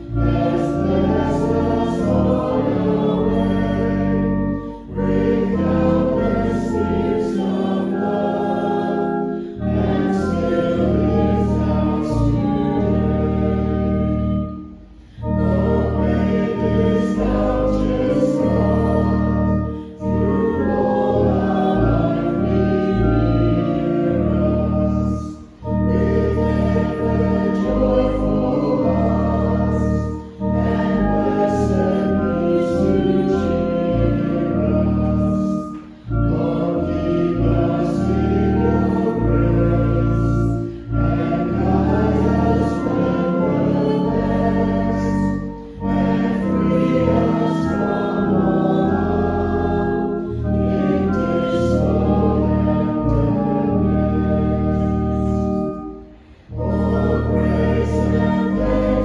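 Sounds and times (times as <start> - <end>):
group singing a hymn: 0.0 - 59.0
organ: 0.0 - 59.0.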